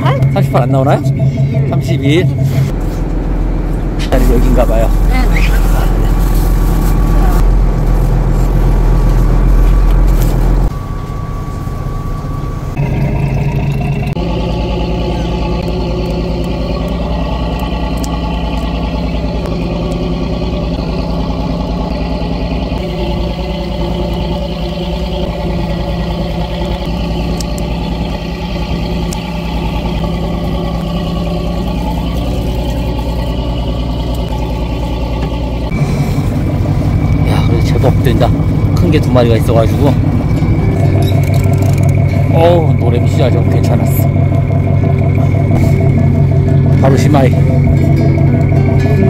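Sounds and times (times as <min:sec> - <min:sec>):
boat engine rumbling: 0:00.0 - 0:49.0
faint hum: 0:00.0 - 0:49.0.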